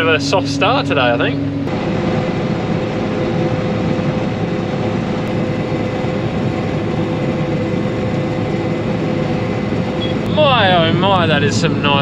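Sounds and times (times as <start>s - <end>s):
combine harvester running: 0.0s - 12.0s
constant machine whine: 0.0s - 12.0s.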